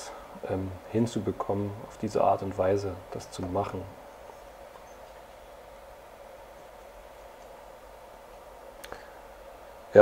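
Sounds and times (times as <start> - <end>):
faint hiss: 0.0 - 10.0
low hum: 0.0 - 10.0.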